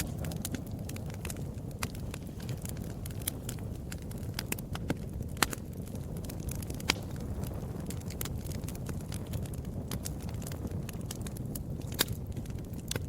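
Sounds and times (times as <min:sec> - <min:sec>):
fire pops and snaps: 0:00.0 - 0:13.0
low rumble of flames: 0:00.0 - 0:13.0.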